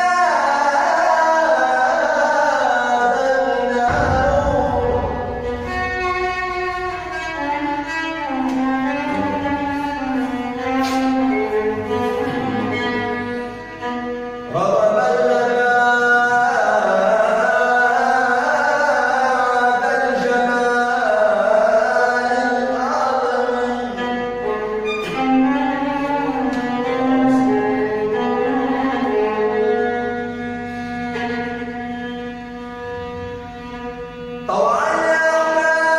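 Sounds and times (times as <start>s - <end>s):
sustained musical accompaniment: 0.0s - 35.9s.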